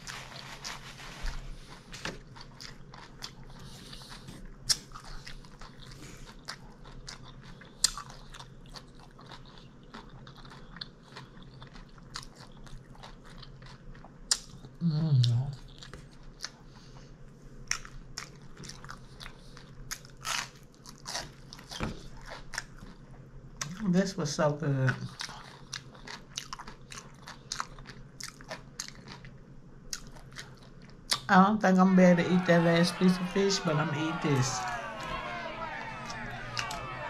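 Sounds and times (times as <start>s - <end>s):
person chewing and crunching food: 0.0s - 23.9s, 24.8s - 31.3s.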